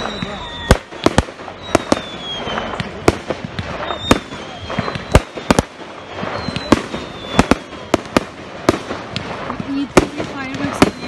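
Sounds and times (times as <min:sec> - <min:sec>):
firework crackling: 0:00.0 - 0:11.0
firework whistles: 0:00.0 - 0:11.0
fireworks bangs: 0:00.0 - 0:11.0.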